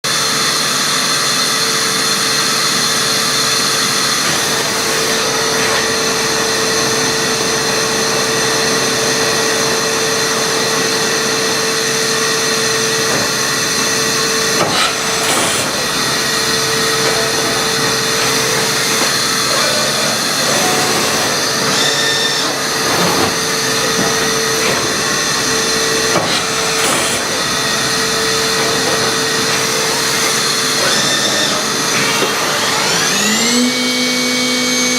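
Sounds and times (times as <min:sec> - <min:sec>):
machine whirring and whining: 0:00.1 - 0:34.9.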